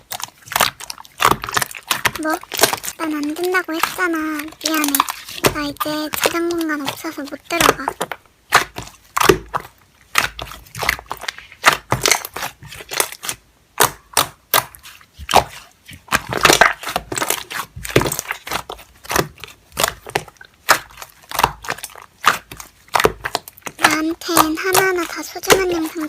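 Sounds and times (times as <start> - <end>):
slime squeezed by hand: 0.0 - 26.0.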